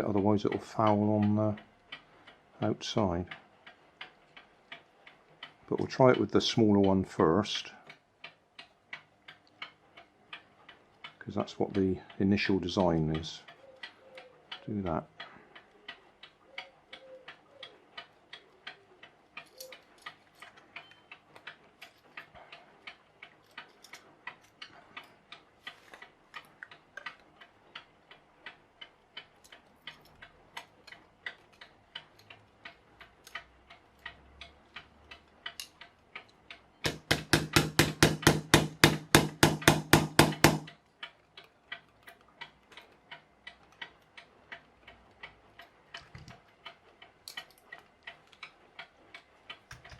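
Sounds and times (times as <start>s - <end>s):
clock ticking: 0.0s - 49.9s.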